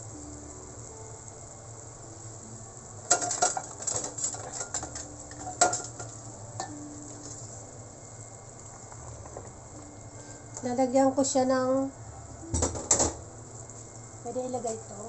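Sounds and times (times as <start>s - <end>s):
sauce bubbling in a pot: 0.0s - 12.3s.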